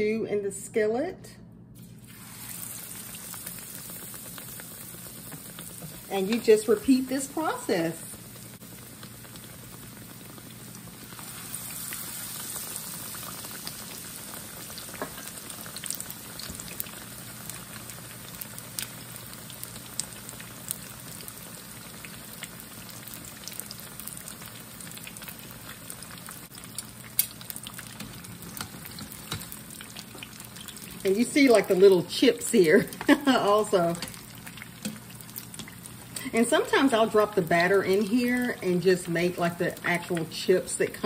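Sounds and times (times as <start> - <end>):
fish frying in oil: 2.1 - 41.0.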